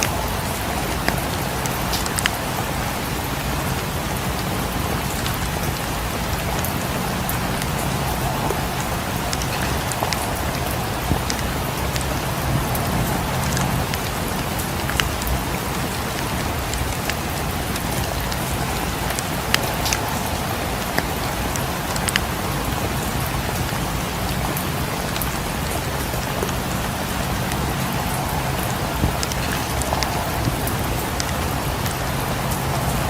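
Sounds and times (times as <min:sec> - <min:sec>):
rain on windows: 0:00.0 - 0:33.0.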